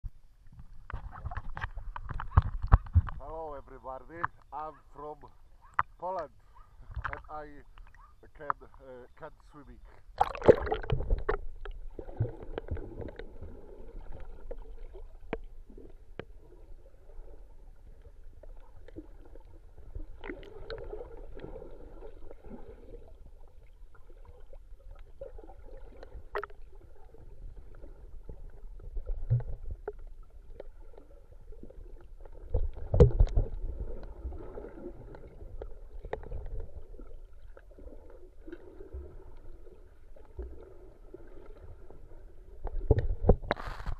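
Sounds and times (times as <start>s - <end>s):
underwater rumble of moving water: 0.0s - 43.9s.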